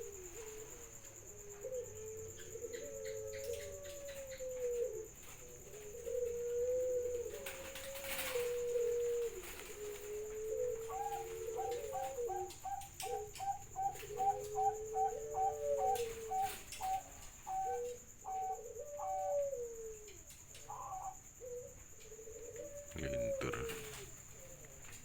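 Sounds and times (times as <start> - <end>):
dove giving low drawn-out coos: 0.0 - 25.0.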